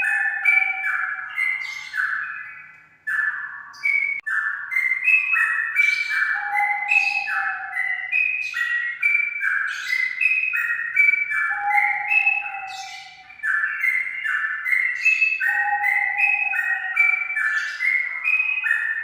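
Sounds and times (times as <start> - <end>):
bird singing warbling phrases: 0.0 - 19.0.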